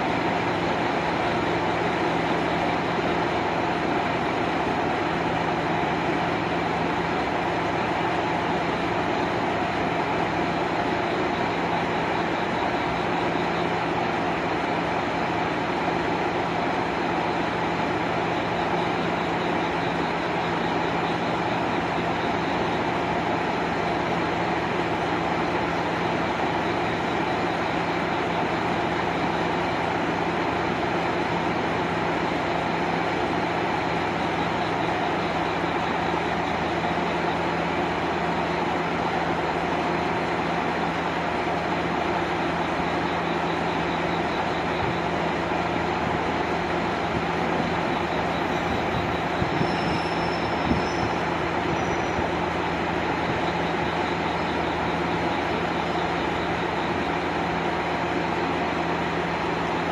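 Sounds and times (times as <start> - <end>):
diesel railcar engine idling: 0.0 - 59.9.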